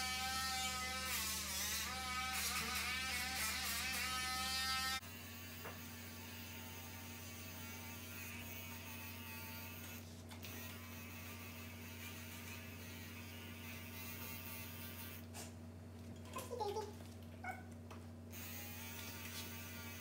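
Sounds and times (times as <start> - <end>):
electric clippers buzzing: 0.0 - 15.4, 18.3 - 20.0.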